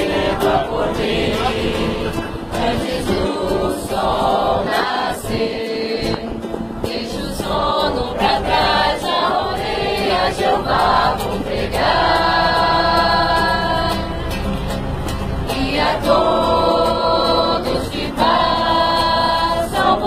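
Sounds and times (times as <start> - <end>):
group singing religious song: 0.0 - 14.6, 15.3 - 20.0
strummed acoustic guitar: 0.0 - 20.0.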